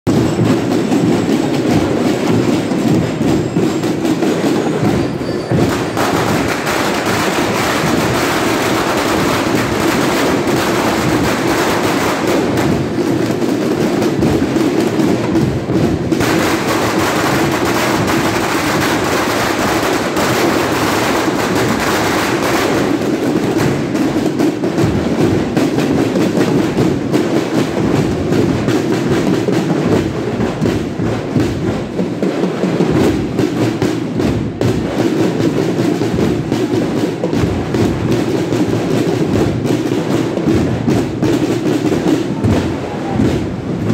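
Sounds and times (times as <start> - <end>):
bass drums: 0.0 - 43.9
snare drums: 0.0 - 43.9.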